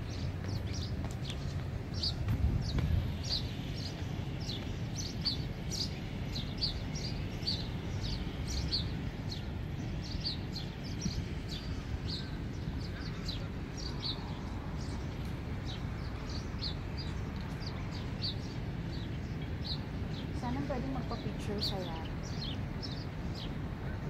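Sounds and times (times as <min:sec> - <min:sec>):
low outdoor rumble: 0:00.0 - 0:24.0
small birds chirping: 0:00.0 - 0:24.0.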